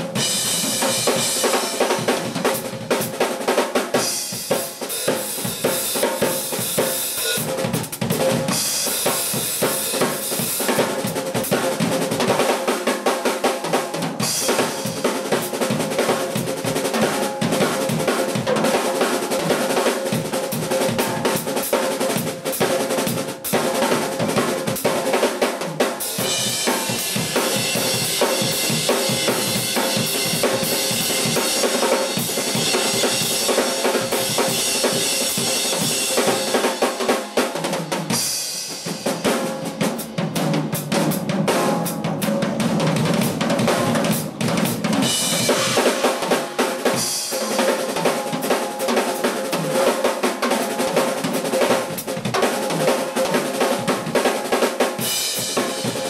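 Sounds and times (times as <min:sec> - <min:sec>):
drums playing fast: 0:00.0 - 0:56.0.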